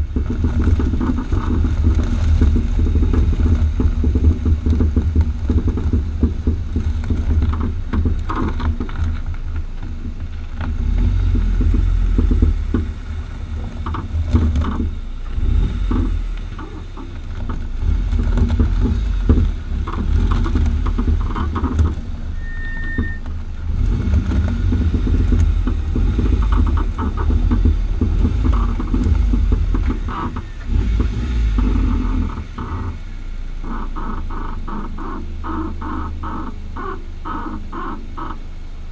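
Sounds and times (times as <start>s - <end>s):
car low rumble: 0.0s - 38.9s
suspension squeaking and clicking: 0.0s - 38.9s.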